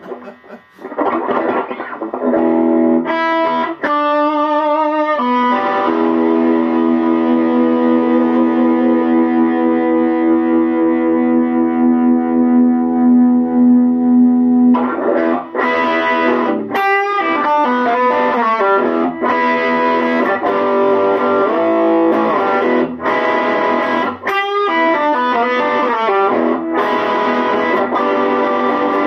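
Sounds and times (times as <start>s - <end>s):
overdriven electric guitar blues lead: 0.0s - 29.0s.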